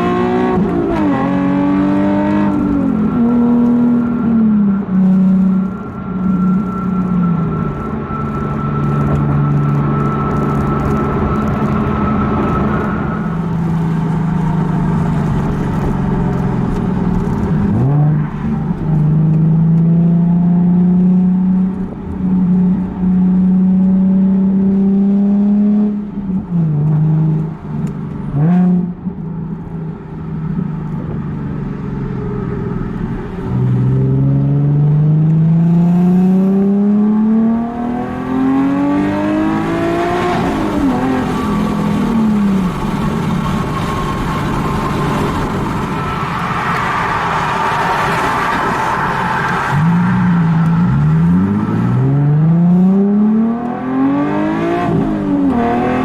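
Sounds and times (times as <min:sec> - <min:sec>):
car engine accelerating through gears: 0:00.0 - 0:29.0, 0:32.5 - 0:56.0.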